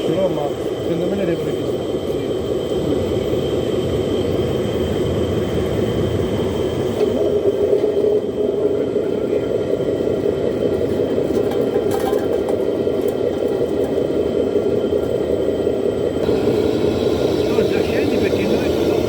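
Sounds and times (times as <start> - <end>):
model truck low rumbling whir: 0.0 - 19.0.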